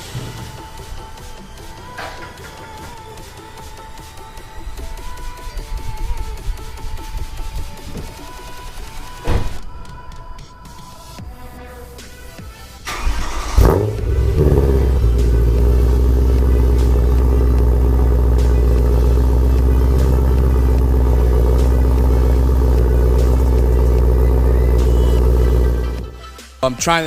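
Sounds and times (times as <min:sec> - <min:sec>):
car engine starting and idling: 0:00.0 - 0:09.2, 0:12.8 - 0:26.4.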